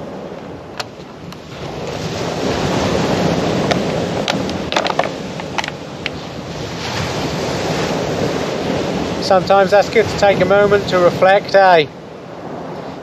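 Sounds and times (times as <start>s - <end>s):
sea waves washing onto beach: 0.0s - 13.0s
wind on microphone: 0.0s - 13.0s.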